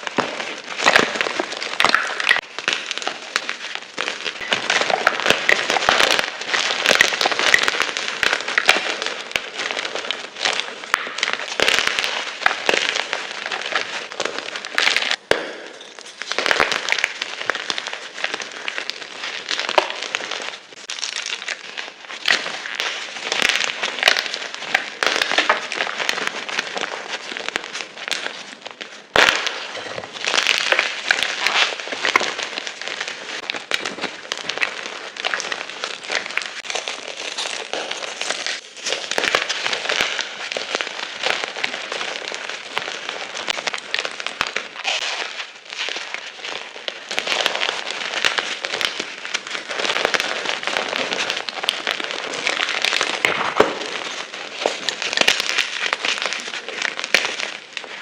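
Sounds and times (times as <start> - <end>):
chalk being crushed: 0.0 - 58.0.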